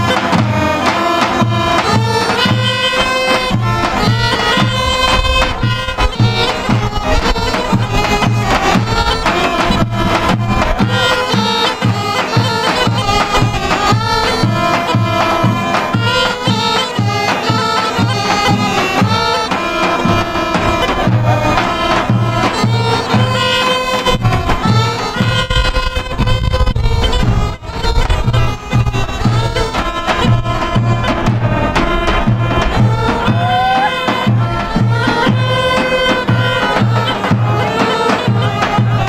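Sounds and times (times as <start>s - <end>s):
low bagpipes playing dance tune: 0.0s - 39.0s
bass drum beating steady rhythm: 1.5s - 16.4s, 18.0s - 37.7s.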